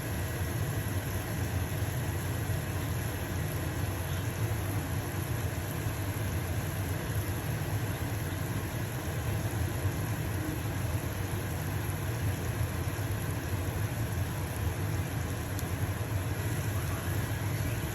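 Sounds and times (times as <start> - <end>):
vent fan humming: 0.0 - 17.9.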